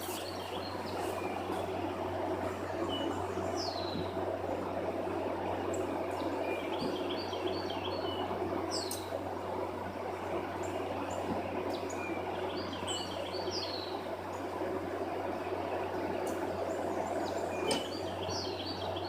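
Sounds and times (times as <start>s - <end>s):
songbird chirping: 0.0s - 4.8s, 5.5s - 9.1s, 10.5s - 14.5s, 15.4s - 19.0s
outdoor background noise: 0.0s - 19.0s
steady low hum: 0.0s - 19.0s.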